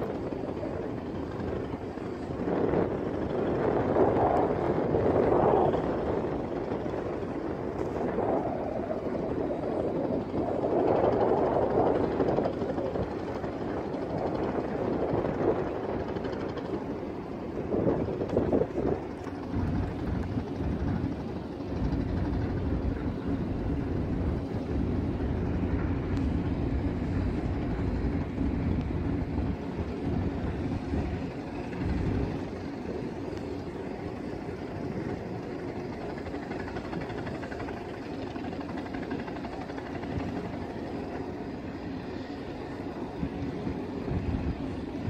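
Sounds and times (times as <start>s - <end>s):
ship engine low rumble: 0.0s - 45.0s
wind buffeting microphone: 0.0s - 45.0s.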